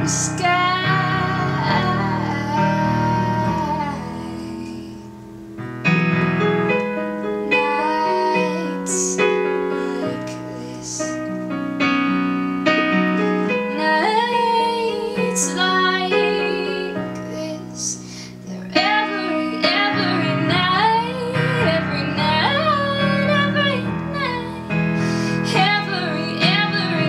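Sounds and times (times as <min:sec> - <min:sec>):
woman singing: 0:00.0 - 0:05.3, 0:07.3 - 0:11.6, 0:13.4 - 0:27.0
digital piano chords: 0:00.0 - 0:27.0.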